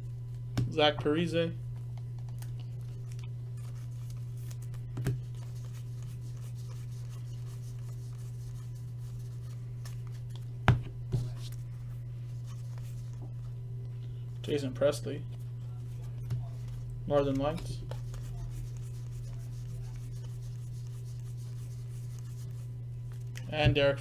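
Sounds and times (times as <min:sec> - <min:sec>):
steady low hum: 0:00.0 - 0:24.0
trading cards handled: 0:01.8 - 0:13.6, 0:15.3 - 0:23.5.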